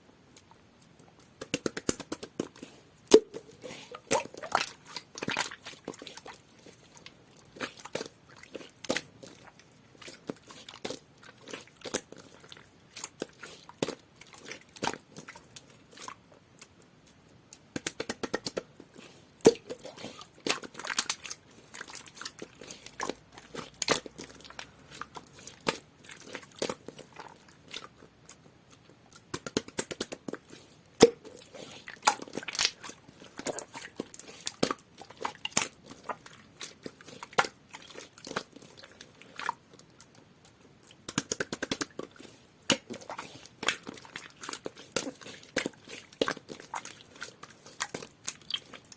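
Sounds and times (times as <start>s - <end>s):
slime squeezed with wet pops: 0.4s - 48.9s.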